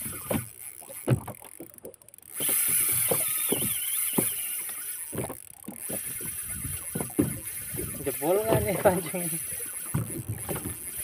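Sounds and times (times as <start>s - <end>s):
fishing reel drag screaming: 0.0s - 1.5s, 2.1s - 11.0s.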